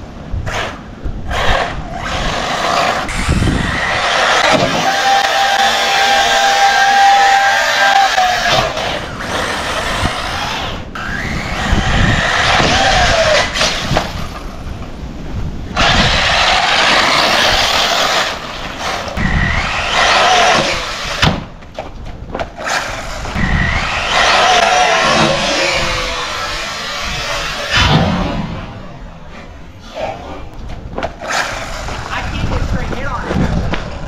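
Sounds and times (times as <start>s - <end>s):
tires rushing over dirt: 0.0s - 34.0s
electric motor whining: 1.3s - 14.9s, 15.7s - 21.5s, 22.6s - 30.6s, 31.2s - 34.0s.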